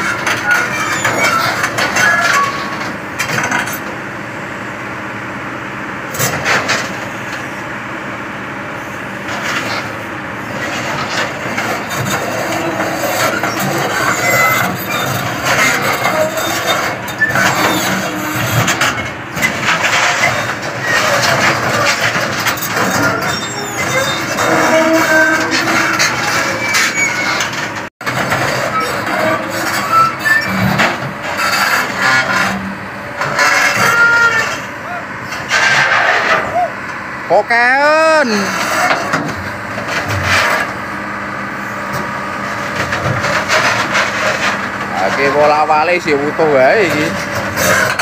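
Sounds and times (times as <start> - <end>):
steel tracks clanking: 0.0 - 4.0, 9.1 - 48.0
diesel engine running: 0.0 - 48.0.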